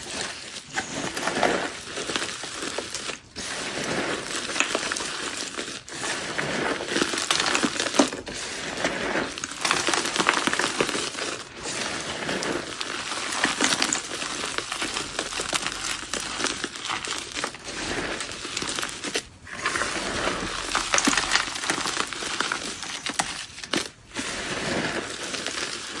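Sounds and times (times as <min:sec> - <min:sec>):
hands crunching dry chalk: 0:00.0 - 0:26.0.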